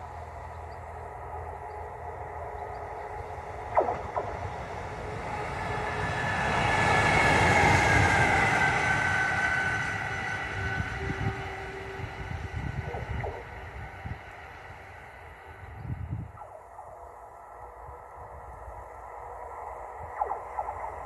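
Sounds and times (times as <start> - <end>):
high electric whine: 0.0 - 21.0.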